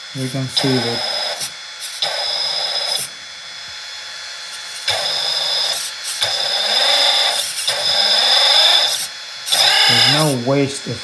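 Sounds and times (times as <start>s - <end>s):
electric motor whining: 0.1s - 3.2s, 4.4s - 10.4s.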